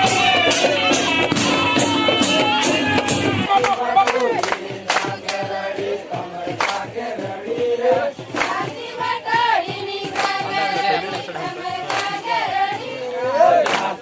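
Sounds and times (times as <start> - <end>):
sharp percussive hits: 0.0 - 12.9
voices singing devotional song: 0.0 - 14.0.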